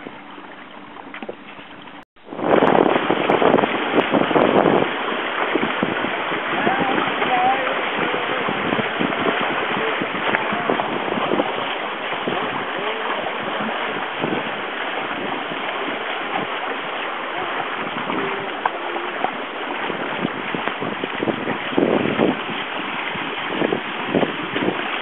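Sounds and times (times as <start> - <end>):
water rushing along hull: 0.0 - 25.0
wind buffeting microphone: 0.0 - 25.0.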